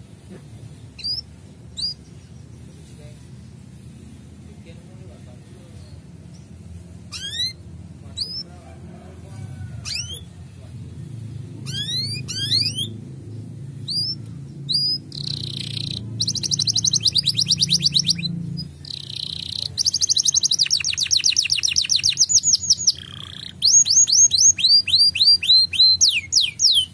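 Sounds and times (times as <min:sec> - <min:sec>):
canary singing: 0:00.6 - 0:02.9, 0:05.7 - 0:26.9.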